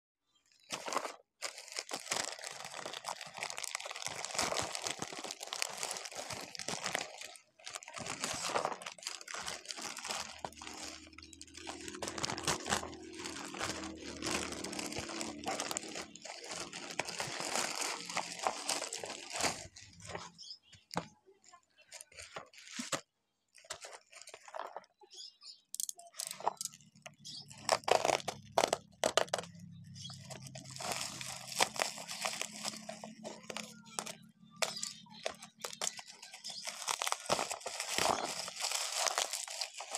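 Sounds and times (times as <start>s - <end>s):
plastic bag and bubble wrap crinkling: 0.6s - 39.9s.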